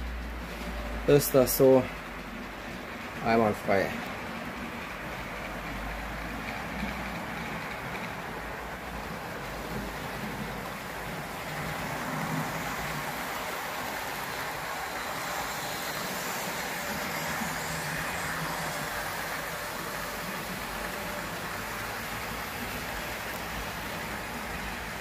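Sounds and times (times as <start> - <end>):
model trains rolling on track: 0.0 - 25.0.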